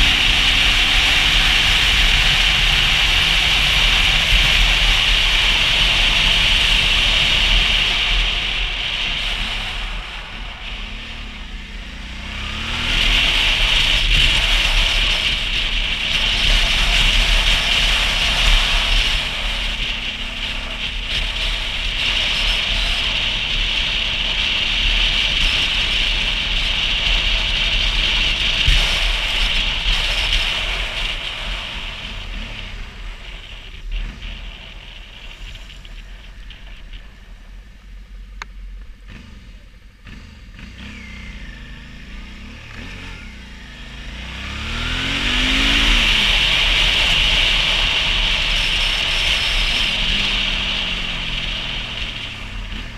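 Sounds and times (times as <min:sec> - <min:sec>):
motorcycle engine: 0:00.0 - 0:52.9.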